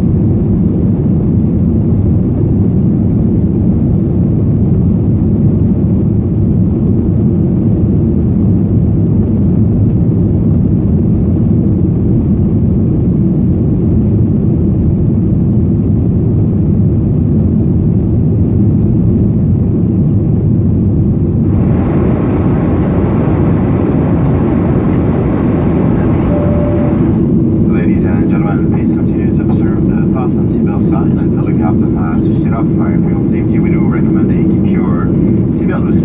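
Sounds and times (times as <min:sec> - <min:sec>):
jet engine rumble in cabin: 0:00.0 - 0:36.0.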